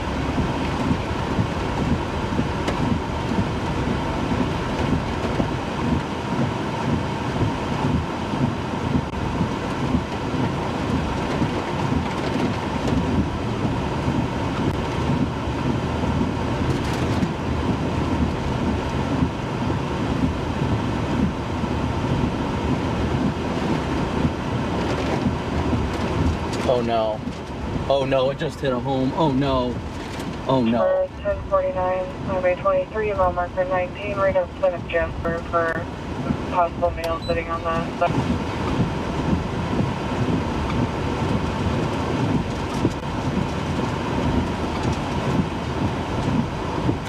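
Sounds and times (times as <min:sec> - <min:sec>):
wind buffeting microphone: 0:00.0 - 0:27.9, 0:29.7 - 0:47.0
tornado wind roaring: 0:00.0 - 0:47.0.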